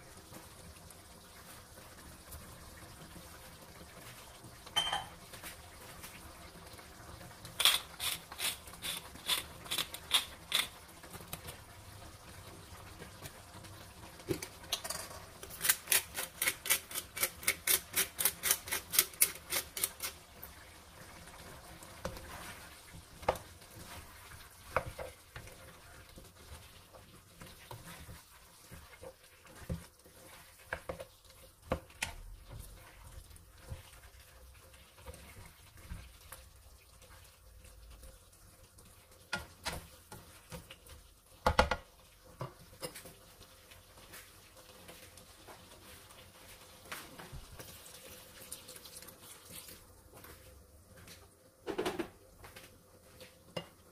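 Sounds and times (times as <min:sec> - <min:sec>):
faint sizzle: 0:00.0 - 0:53.9.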